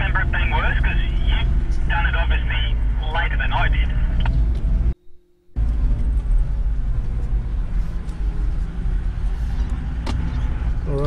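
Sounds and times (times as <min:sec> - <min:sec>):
vehicle driving on dirt trail: 0:00.0 - 0:05.0, 0:05.6 - 0:11.0.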